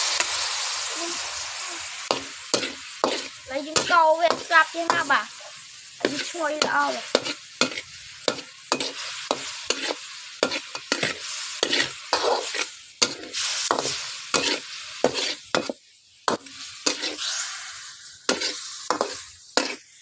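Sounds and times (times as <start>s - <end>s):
food sizzling in a pan: 0.0s - 20.0s
spatula scraping a pan: 2.0s - 20.0s.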